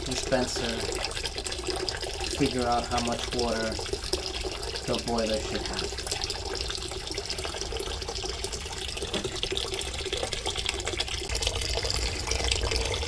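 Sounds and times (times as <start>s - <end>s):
water running into a container: 0.0s - 13.0s.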